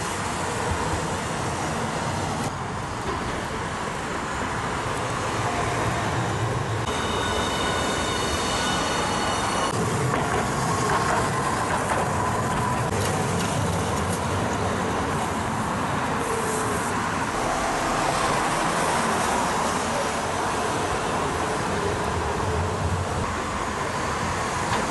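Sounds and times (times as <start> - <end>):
road traffic noise: 0.0 - 24.9
streetcar running on tracks: 0.0 - 24.9.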